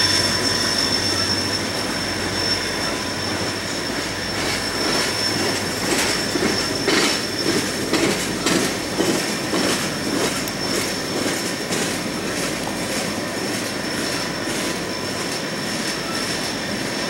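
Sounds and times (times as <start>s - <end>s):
train rumble: 0.0s - 17.0s
wheel squeal: 0.0s - 17.0s
train wheels clicking over rail joints: 2.2s - 17.0s.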